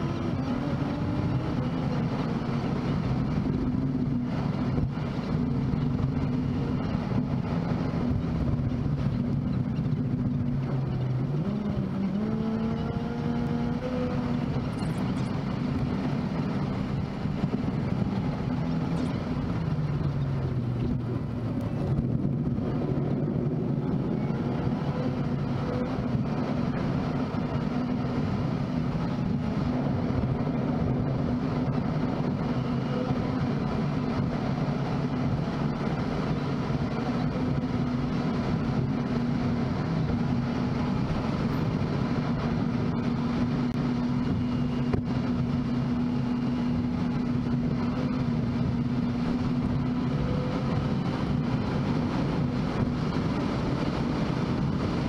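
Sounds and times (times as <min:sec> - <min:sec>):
car driving interior drone: 0:00.0 - 0:55.0.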